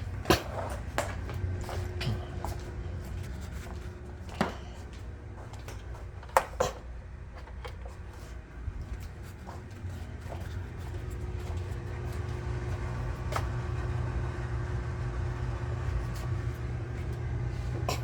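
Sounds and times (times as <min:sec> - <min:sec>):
furnace humming: 0:00.0 - 0:18.0.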